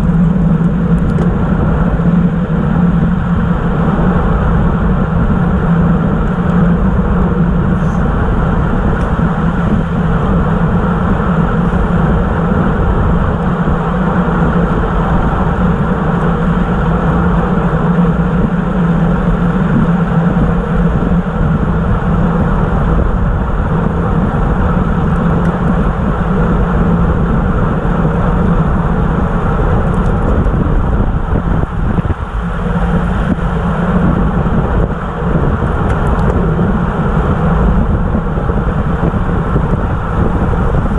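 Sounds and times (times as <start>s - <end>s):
bicycle tyre road noise: 0.0s - 40.9s
constant low hum: 0.0s - 40.9s
wind rushing over microphone: 0.0s - 40.9s.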